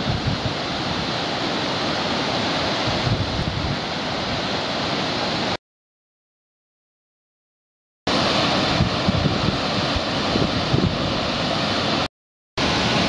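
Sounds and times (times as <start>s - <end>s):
waterfall rushing: 0.0s - 5.6s, 8.1s - 13.0s.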